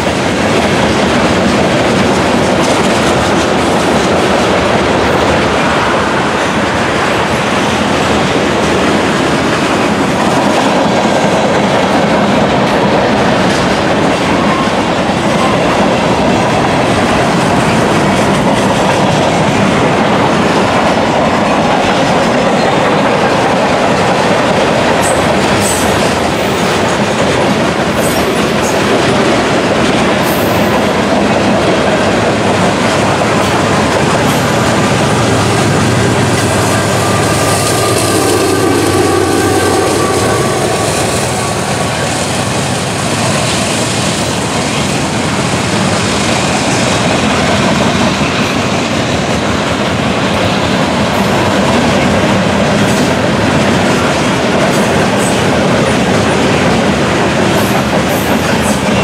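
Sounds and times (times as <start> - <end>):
clickety-clack over rail joints: 0.0 - 59.0
freight train wheels rumbling: 0.0 - 59.0.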